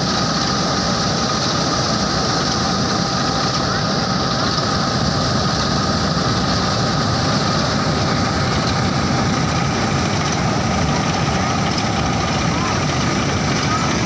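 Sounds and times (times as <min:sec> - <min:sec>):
combine harvester engine droning: 0:00.0 - 0:14.0
steady high whine: 0:00.0 - 0:14.0.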